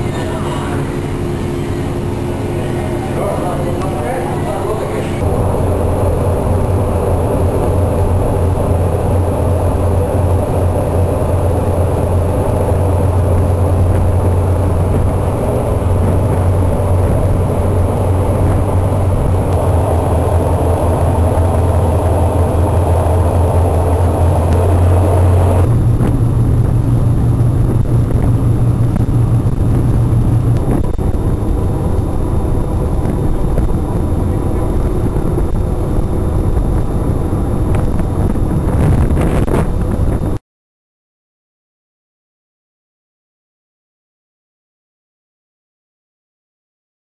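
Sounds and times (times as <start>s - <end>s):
ferry engines droning: 0.0s - 40.4s
rushing noise: 0.0s - 40.4s.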